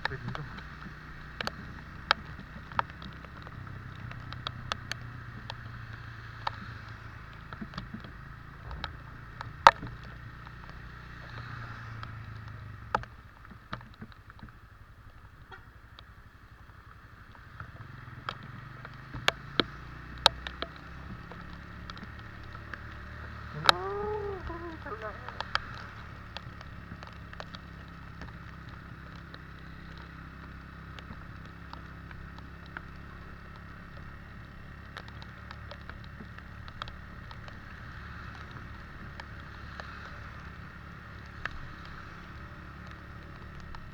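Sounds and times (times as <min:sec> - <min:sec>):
sharp ticks: 0:00.0 - 0:10.9, 0:17.3 - 0:42.0
vehicle and road noise in rain: 0:00.0 - 0:43.9.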